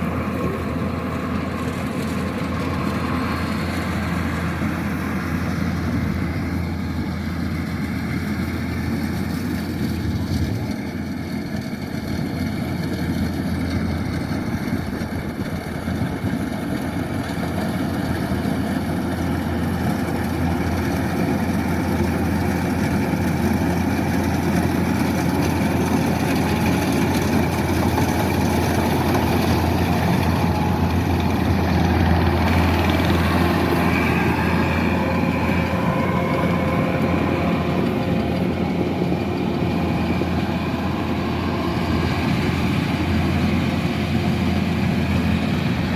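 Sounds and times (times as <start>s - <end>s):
combine harvester diesel engine: 0.0s - 45.9s.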